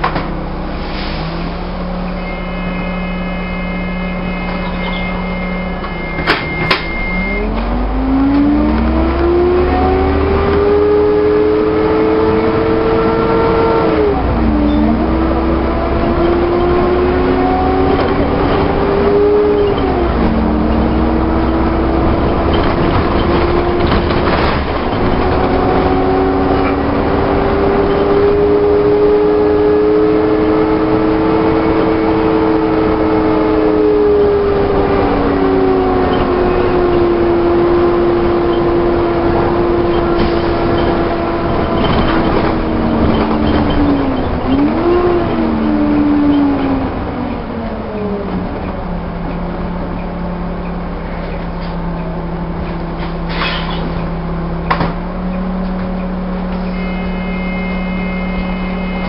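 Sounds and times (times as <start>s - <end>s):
bus diesel engine pulling: 0.0s - 59.0s.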